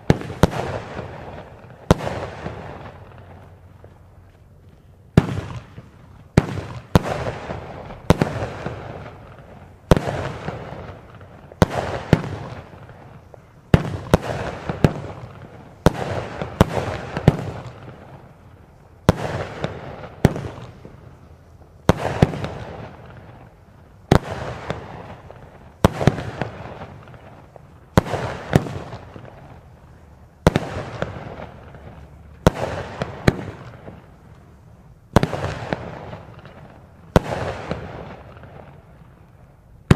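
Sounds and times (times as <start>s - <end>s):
crackling hissing firework tail: 0.0s - 39.9s
firework bangs: 0.0s - 39.9s.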